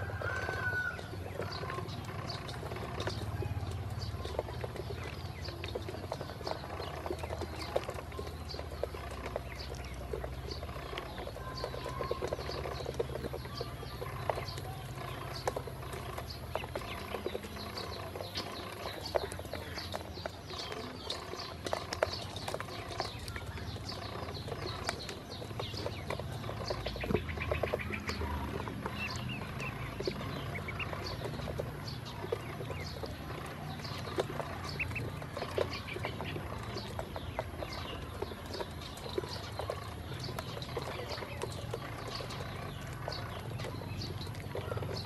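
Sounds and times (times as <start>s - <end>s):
ducklings peeping: 0.0s - 45.0s.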